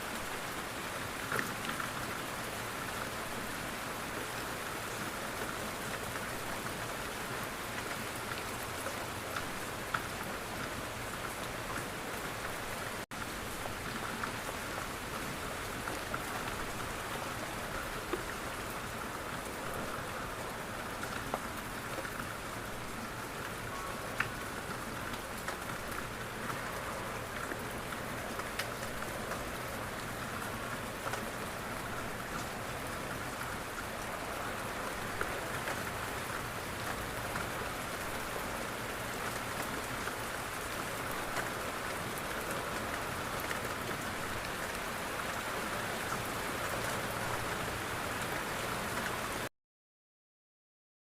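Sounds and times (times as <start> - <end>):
rain on a window: 0.0 - 49.5.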